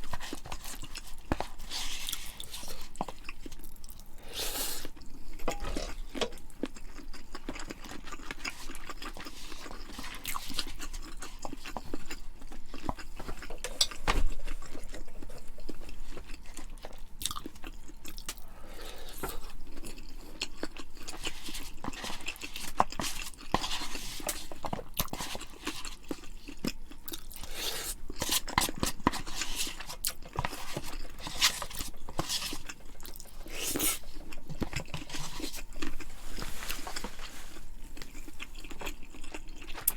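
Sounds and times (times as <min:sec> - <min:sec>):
chewing with small clicks: 0:00.0 - 0:04.1, 0:04.8 - 0:18.5, 0:19.1 - 0:27.5, 0:28.1 - 0:36.1, 0:38.0 - 0:39.9.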